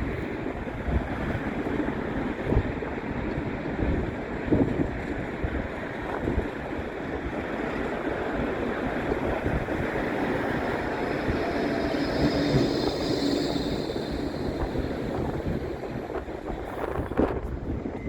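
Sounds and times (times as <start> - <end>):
electric tram running: 0.0 - 18.0
faint tram whine: 0.0 - 18.0
wind buffeting microphone: 0.0 - 18.0.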